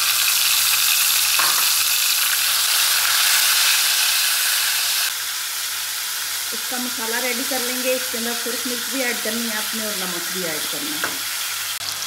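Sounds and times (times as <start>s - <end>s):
tomato sizzling in a pan: 0.0s - 12.0s.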